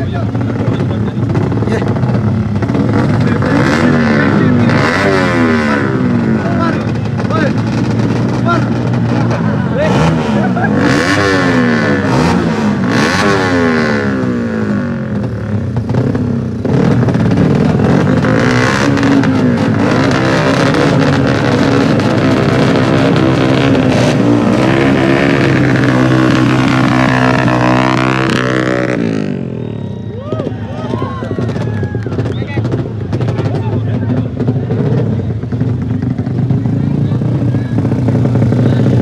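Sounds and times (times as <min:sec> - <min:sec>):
racing engines revving: 0:00.0 - 0:39.0.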